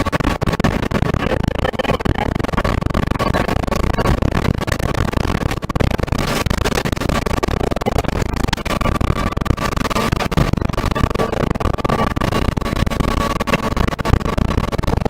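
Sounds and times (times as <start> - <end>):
rapid crackling hits: 0.0 - 15.0.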